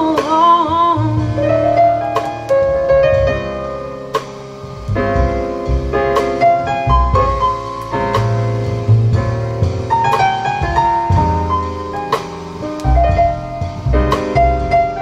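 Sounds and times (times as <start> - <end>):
jazz piano: 0.0 - 15.0
light drum and cymbal strokes: 0.0 - 15.0
low bass: 0.0 - 15.0.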